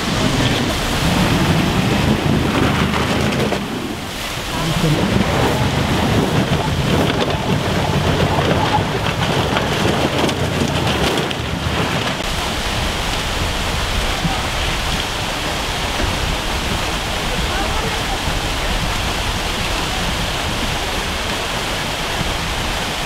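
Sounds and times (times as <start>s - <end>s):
heavy low rumble: 0.0s - 23.0s
water rushing and splashing: 0.0s - 23.0s.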